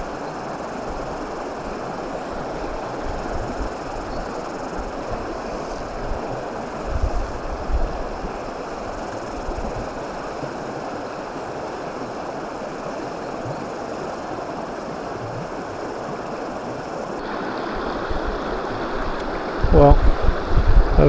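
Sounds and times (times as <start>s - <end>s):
stony stream running: 0.0s - 21.0s.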